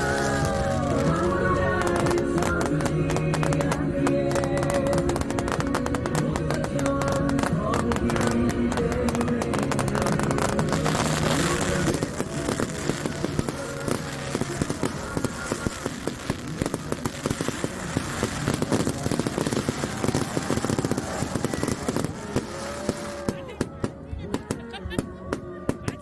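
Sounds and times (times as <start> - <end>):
fireworks crackling and popping: 0.0 - 26.0
music: 0.0 - 26.0
voices: 0.0 - 26.0.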